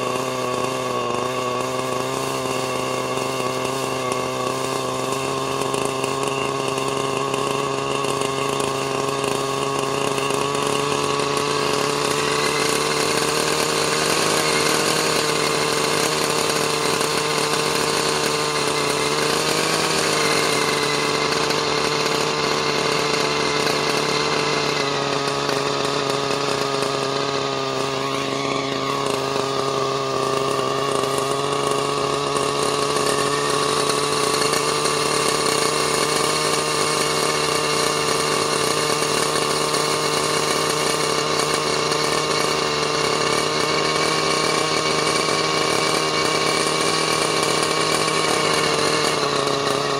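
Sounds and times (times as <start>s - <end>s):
two-stroke model engine running: 0.0s - 49.9s.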